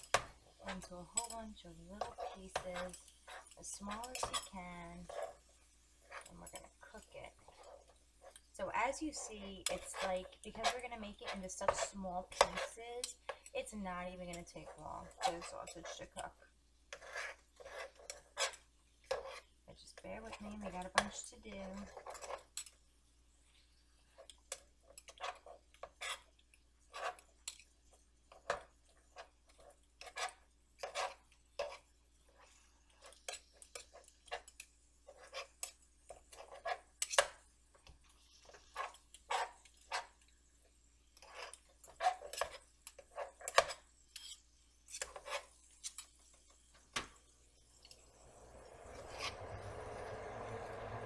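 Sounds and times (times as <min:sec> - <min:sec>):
utensil scraping a frying pan: 0:00.0 - 0:13.5, 0:14.2 - 0:16.3, 0:16.9 - 0:22.8, 0:23.6 - 0:40.3, 0:41.0 - 0:46.9, 0:48.7 - 0:51.0.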